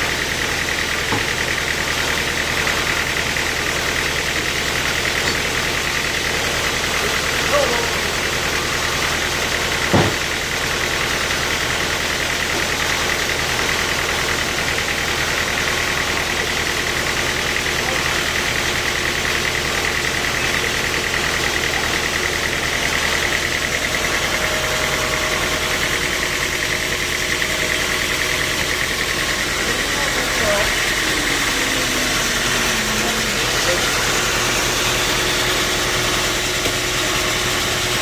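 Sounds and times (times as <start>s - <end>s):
sawmill machinery running: 0.0s - 38.0s.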